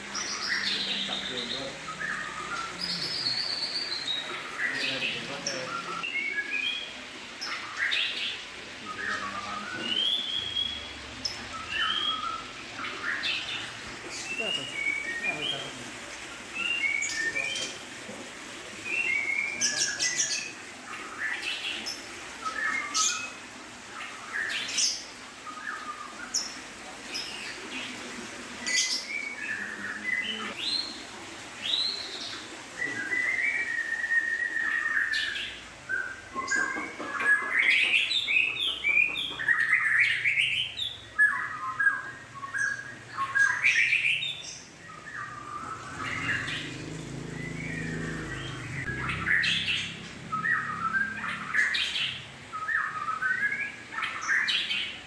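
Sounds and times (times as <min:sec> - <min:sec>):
birds chirping and whistling: 0:00.0 - 0:28.0, 0:28.6 - 0:55.0.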